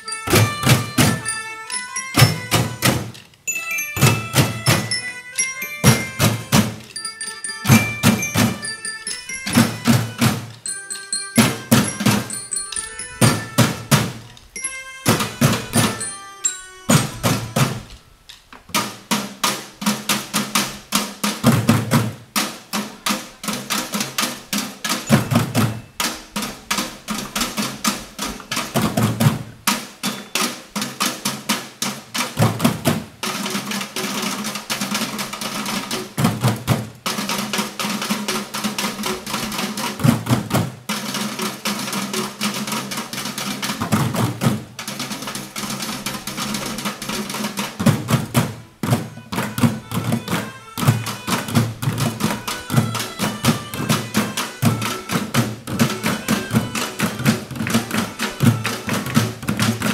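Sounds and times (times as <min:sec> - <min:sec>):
percussion ensemble playing fast rhythm: 0:00.0 - 0:59.9.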